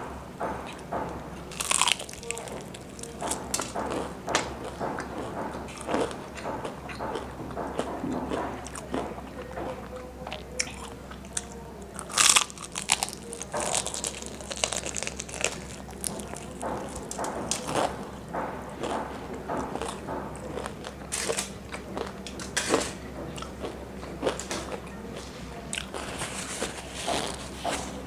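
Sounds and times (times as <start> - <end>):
crunchy chewing of fried chicken: 0.6 - 28.0.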